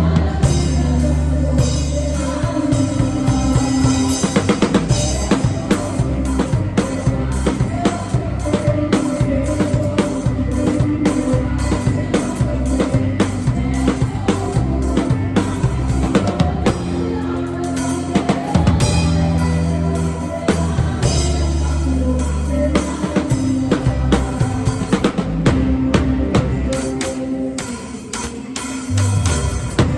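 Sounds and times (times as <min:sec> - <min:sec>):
band bass and instruments: 0:00.0 - 0:29.9
live drum kit beat: 0:00.0 - 0:29.9.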